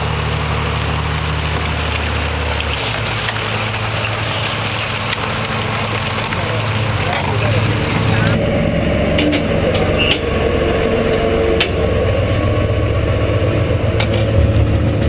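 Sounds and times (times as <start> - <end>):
tracked vehicle engine rattling: 0.0 - 15.0.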